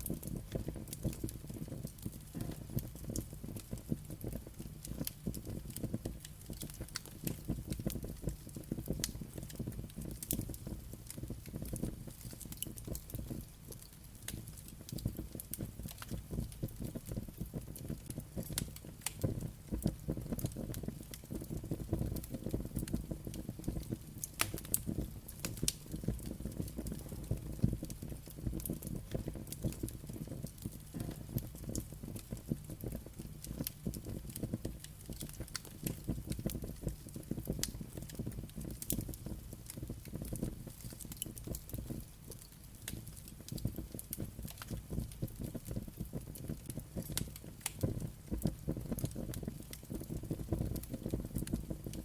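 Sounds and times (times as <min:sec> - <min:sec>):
fire crackling and popping: 0:00.0 - 0:52.0
wood fire rumbling: 0:00.0 - 0:52.0.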